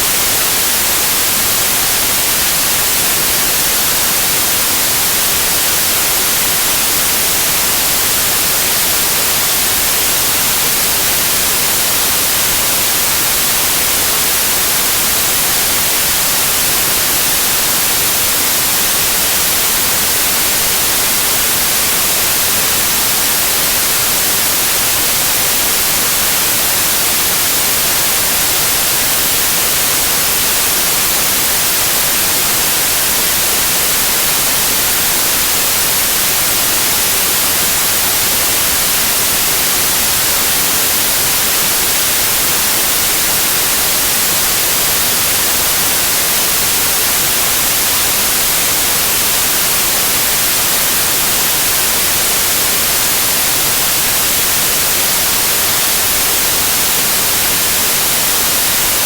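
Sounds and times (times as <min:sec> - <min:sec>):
tv static hiss: 0:00.0 - 0:59.0.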